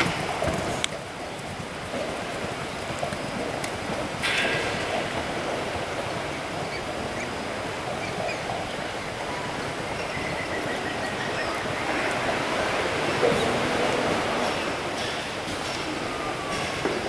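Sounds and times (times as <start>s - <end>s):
outdoor rushing noise: 0.0s - 17.0s.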